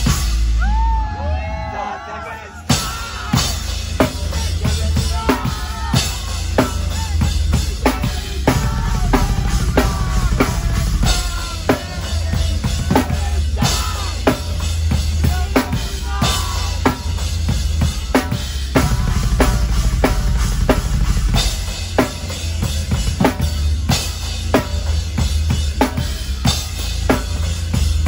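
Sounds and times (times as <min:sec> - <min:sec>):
heavy metal band music: 0:00.0 - 0:28.0
cymbals: 0:02.7 - 0:28.0.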